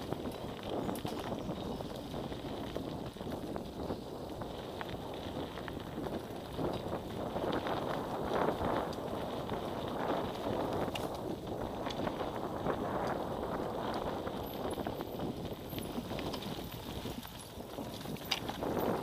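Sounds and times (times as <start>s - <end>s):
bike rattling and knocking: 0.0s - 19.0s
tyres rumbling over dirt and stones: 0.0s - 19.0s.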